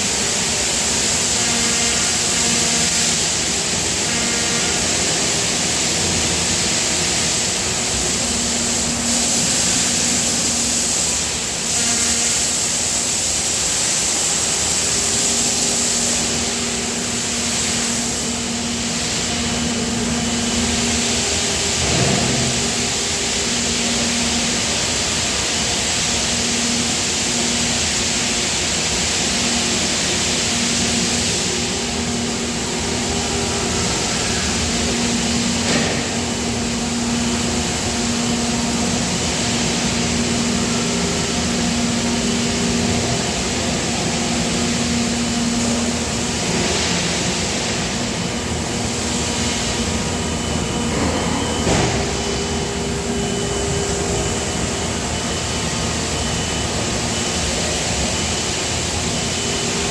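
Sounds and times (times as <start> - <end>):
die casting machinery running: 0.0 - 59.9.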